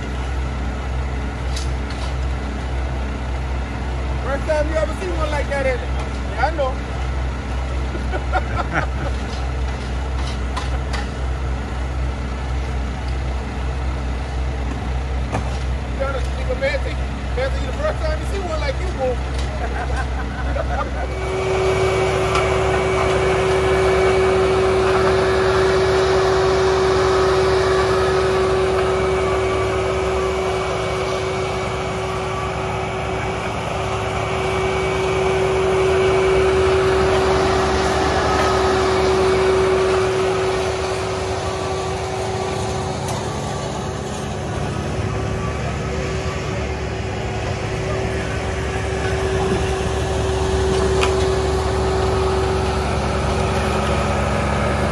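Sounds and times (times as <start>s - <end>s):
paving machinery engines roaring: 0.0s - 54.9s.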